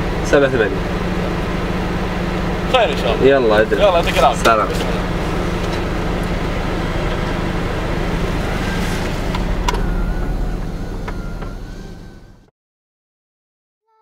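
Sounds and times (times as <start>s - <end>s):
car engine from inside cabin: 0.0s - 12.5s
road noise: 0.0s - 12.5s.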